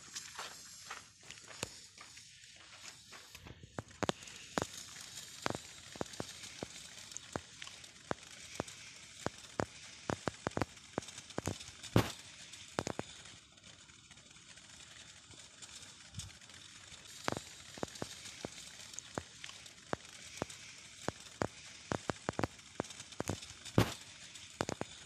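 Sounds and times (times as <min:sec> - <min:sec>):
fireworks hissing: 0:00.0 - 0:13.6, 0:14.4 - 0:25.0
fireworks popping and crackling: 0:00.0 - 0:25.0.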